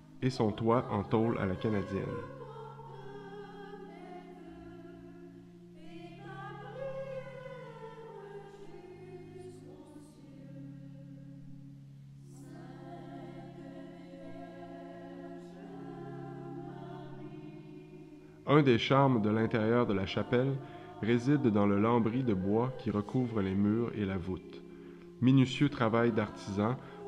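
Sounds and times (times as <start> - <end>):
choir singing sustained chords: 0.0 - 27.0.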